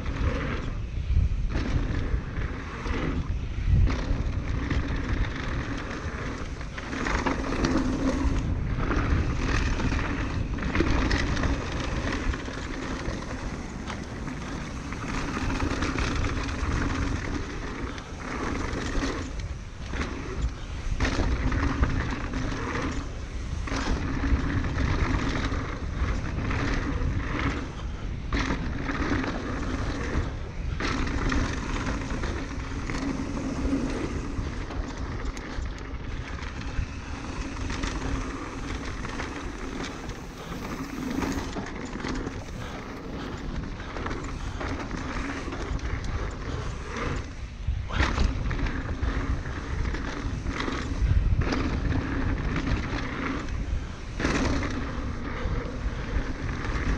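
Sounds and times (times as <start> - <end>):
bike knocks and rattles: 0.0 - 56.9
rolling tyre noise: 0.0 - 56.9
wind on microphone: 0.0 - 56.9.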